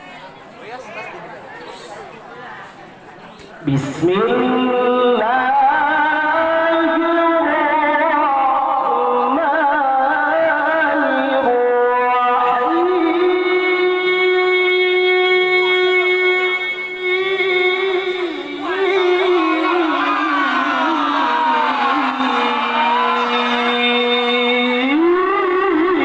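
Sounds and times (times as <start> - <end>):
man chanting melodic recitation: 3.6 - 26.0.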